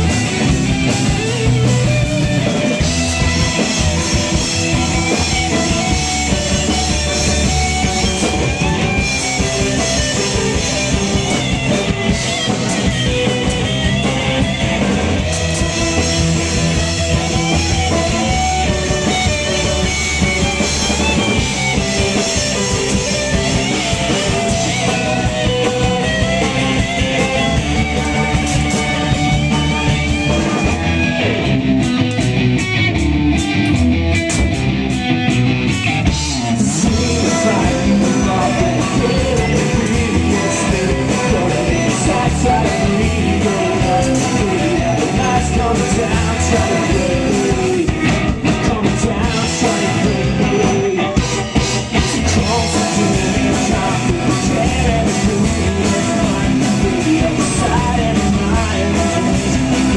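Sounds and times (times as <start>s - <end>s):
live rock band playing: 0.0s - 59.9s
person singing lead vocal: 2.4s - 31.6s, 36.2s - 59.9s.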